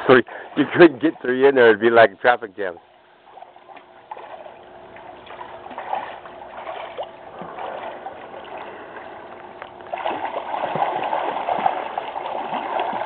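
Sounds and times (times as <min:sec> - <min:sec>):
pool water splashing and lapping: 0:00.0 - 0:13.0.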